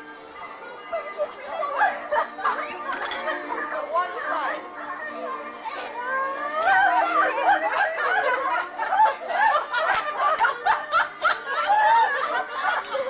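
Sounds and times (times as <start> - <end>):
group of adults laughing: 0.8 - 4.7, 6.2 - 13.0.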